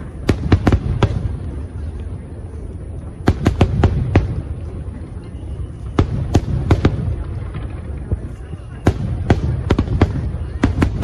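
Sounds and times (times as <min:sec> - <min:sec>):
fireworks bursting: 0:00.0 - 0:01.9, 0:03.1 - 0:11.0.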